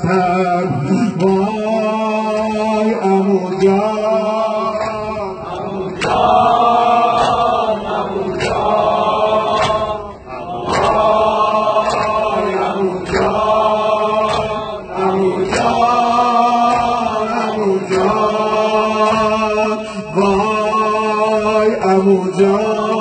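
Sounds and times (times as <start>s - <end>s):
men chanting in unison: 0.0s - 23.0s
rhythmic chest-beating strikes: 0.0s - 23.0s.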